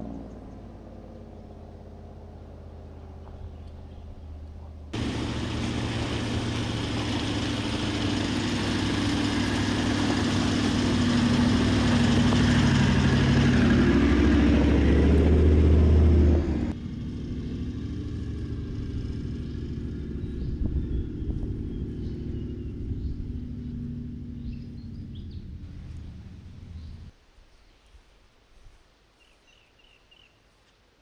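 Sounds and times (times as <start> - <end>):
distant vehicle engine: 0.0 - 27.1
vehicle engine approaching: 0.0 - 27.1.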